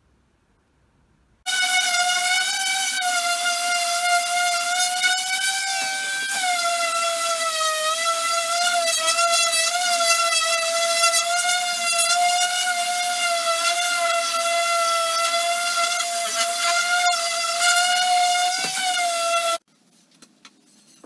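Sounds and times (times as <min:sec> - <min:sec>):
orbital sander whining: 0:01.5 - 0:19.6.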